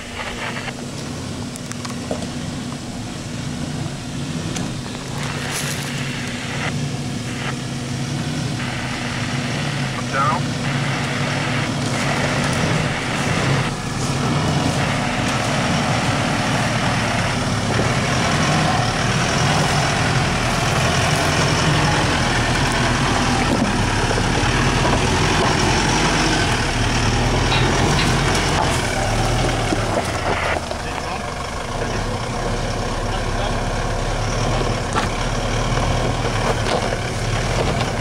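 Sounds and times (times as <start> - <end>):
vehicle engine running at low revs: 0.0 - 38.0.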